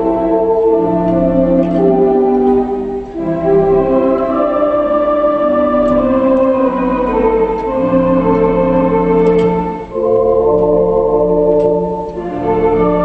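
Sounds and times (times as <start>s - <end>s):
theatre organ playing sustained chords: 0.0s - 13.0s.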